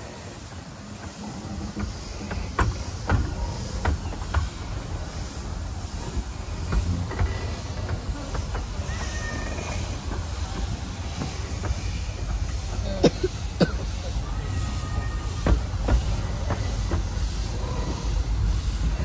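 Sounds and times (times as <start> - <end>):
train wheels rumbling: 0.0 - 19.0
wheels clicking over rail joints: 0.8 - 19.0.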